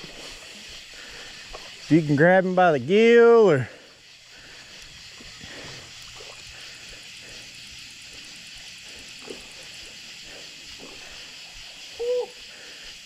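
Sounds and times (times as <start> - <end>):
fast high ticking: 0.0 - 13.0
insects chirping at night: 0.0 - 13.0.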